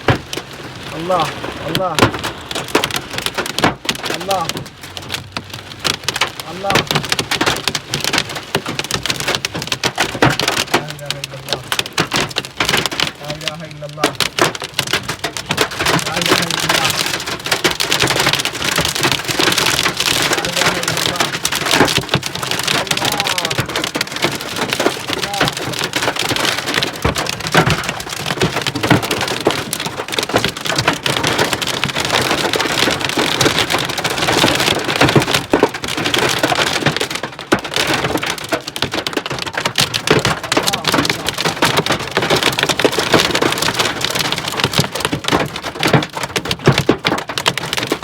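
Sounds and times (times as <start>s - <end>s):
heavy rain with hail clattering: 0.0s - 48.0s.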